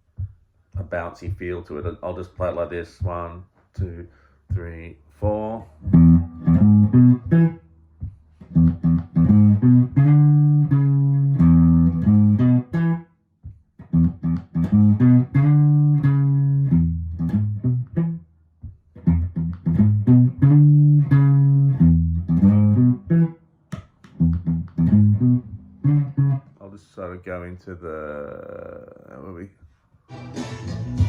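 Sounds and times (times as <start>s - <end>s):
guitar bass line plucked notes: 0.2s - 26.6s.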